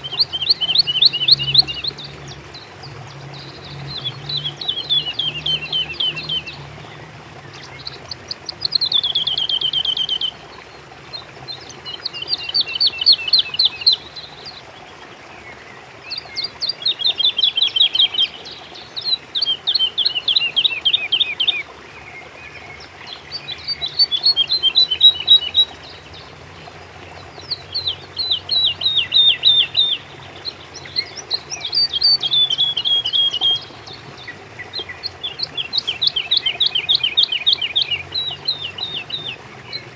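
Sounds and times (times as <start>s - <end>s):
songbird singing rapid trill: 0.0s - 14.8s, 15.5s - 39.9s.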